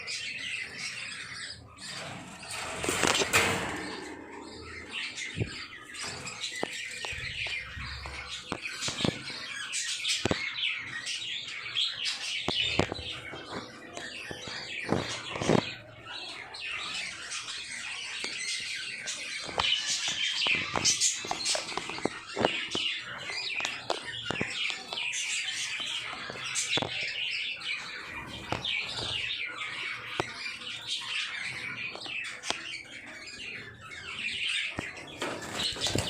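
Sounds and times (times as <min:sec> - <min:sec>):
birds twittering: 0:00.0 - 0:36.0.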